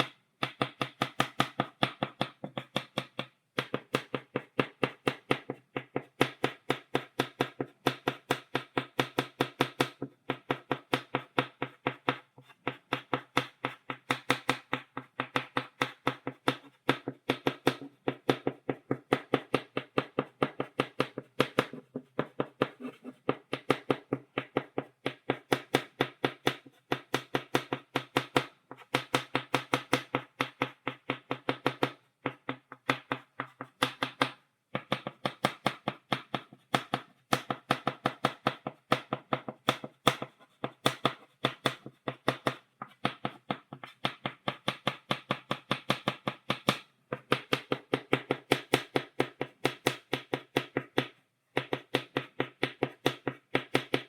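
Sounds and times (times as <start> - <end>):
chalk tapping on blackboard: 0.0 - 54.0.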